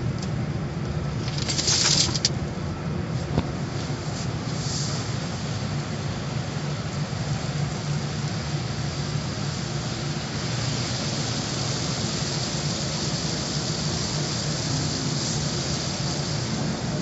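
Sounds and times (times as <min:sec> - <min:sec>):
car wash rushing hiss: 0:00.0 - 0:17.0.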